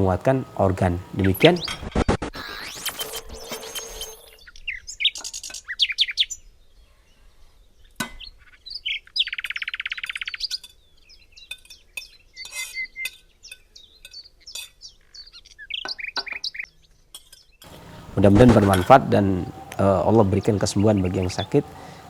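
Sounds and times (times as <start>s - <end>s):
small birds chirping: 0.0s - 22.0s
bird trill: 0.5s - 1.8s, 2.4s - 7.0s, 8.2s - 22.0s.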